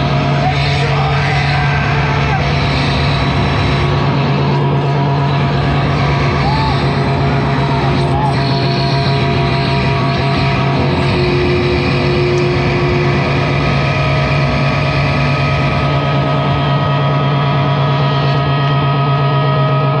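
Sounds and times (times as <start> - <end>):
low amplifier hum: 0.0 - 20.0
sustained feedback tones: 0.0 - 20.0.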